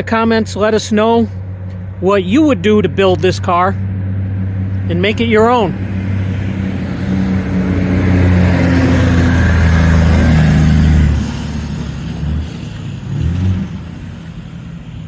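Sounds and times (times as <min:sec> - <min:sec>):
diesel truck labouring uphill: 0:00.0 - 0:15.0.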